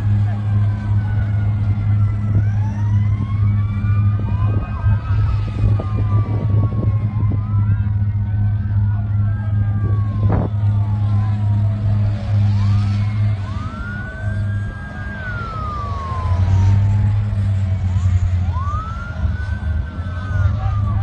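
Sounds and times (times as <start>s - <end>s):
low engine drone: 0.0s - 21.0s
sirens wailing: 0.0s - 21.0s.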